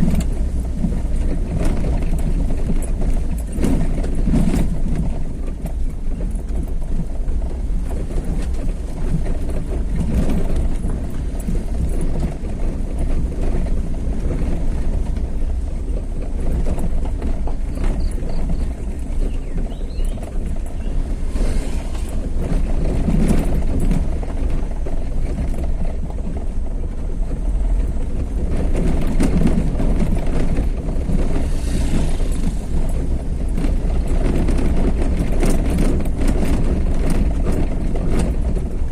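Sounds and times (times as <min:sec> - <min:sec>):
road noise: 0:00.0 - 0:38.9
vehicle engine rumble: 0:00.0 - 0:38.9.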